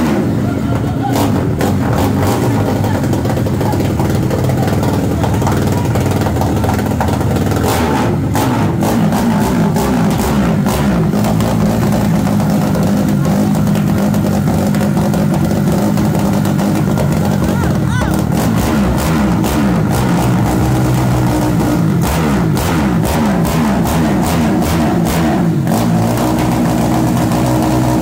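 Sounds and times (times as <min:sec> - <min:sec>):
exhaust pops: 0:00.0 - 0:28.0
motorcycle engine revving: 0:00.0 - 0:28.0.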